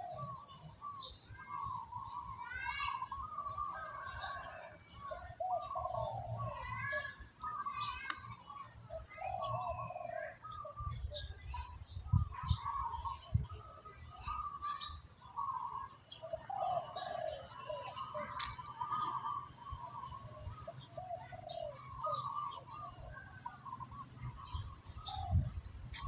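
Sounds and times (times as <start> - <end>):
birds chirping and calling: 0.0 - 26.0.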